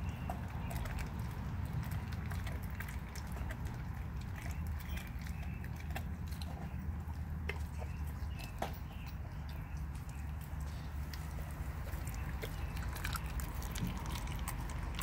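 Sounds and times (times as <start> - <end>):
dog chewing crunchy food: 0.0 - 15.0.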